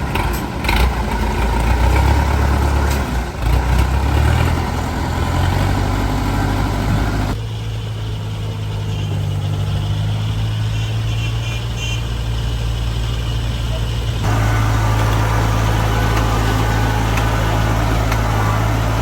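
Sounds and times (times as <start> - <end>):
harvester diesel engine: 0.0 - 19.0.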